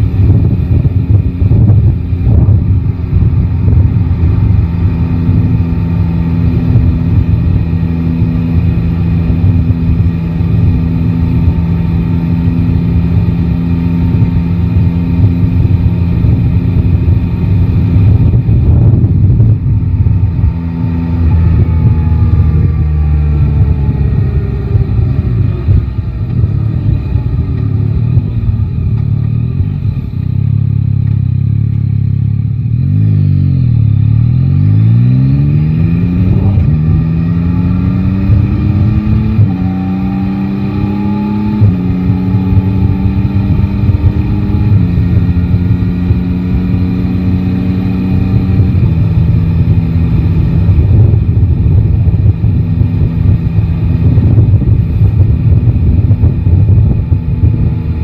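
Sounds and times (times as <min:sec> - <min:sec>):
motorcycle engine accelerating: 0:00.0 - 0:58.0
wind and road rumble: 0:00.0 - 0:58.0.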